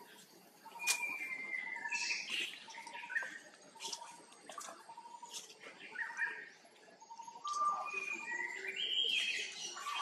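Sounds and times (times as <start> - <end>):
birds calling in whistled notes: 0.0 - 10.0.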